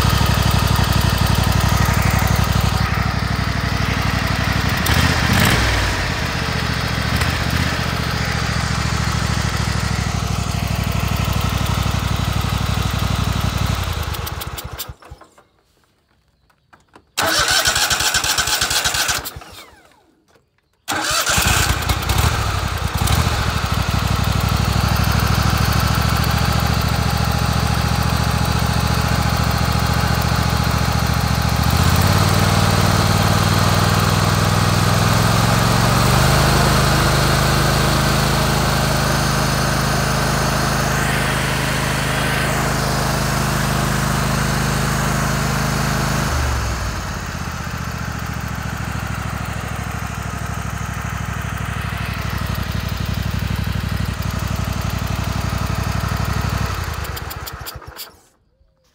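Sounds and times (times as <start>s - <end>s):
engine running with puffing noise: 0.0s - 15.4s, 20.9s - 58.5s.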